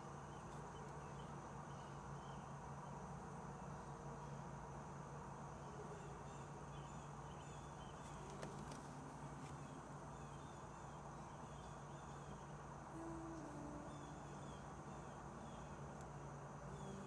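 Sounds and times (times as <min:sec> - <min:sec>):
faint hiss: 0:00.0 - 0:17.0
steady low hum: 0:00.0 - 0:17.0.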